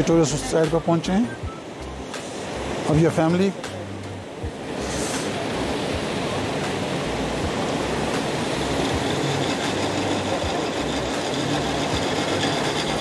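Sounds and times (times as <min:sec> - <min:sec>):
river rushing over rocks: 0:02.1 - 0:13.0.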